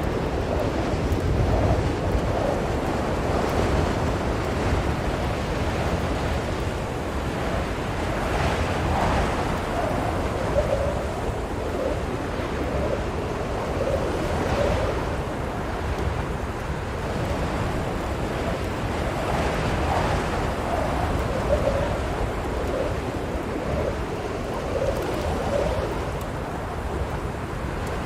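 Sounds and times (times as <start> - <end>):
blizzard wind howling: 0.0 - 28.0.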